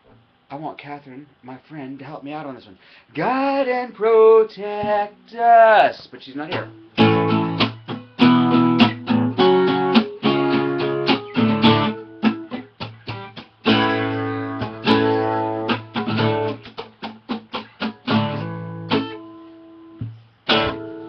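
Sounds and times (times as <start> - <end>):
acoustic guitar strumming chords: 3.2 - 21.0.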